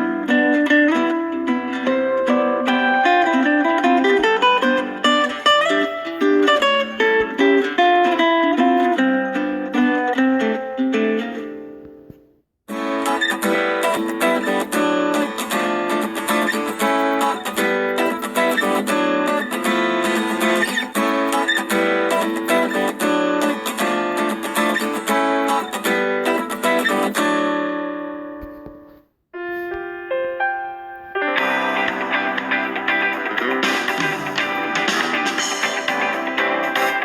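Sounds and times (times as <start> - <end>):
plucked guitar ringtone: 0.0 - 11.8, 12.7 - 28.8, 29.4 - 37.0.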